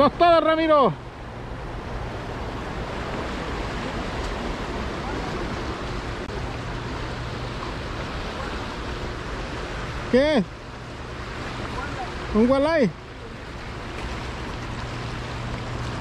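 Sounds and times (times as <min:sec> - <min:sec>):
river water rushing: 0:00.0 - 0:16.0
wind: 0:00.0 - 0:16.0.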